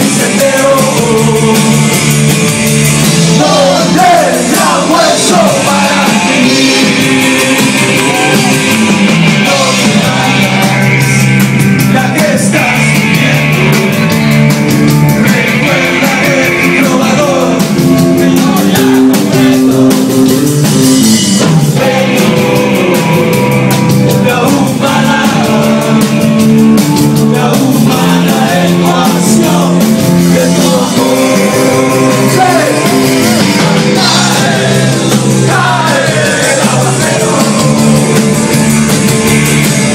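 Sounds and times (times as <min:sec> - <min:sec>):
person singing: 0:00.0 - 0:02.2, 0:03.3 - 0:14.3, 0:15.2 - 0:20.5, 0:21.7 - 0:26.5, 0:27.1 - 0:38.9
live rock band playing: 0:00.0 - 0:39.9.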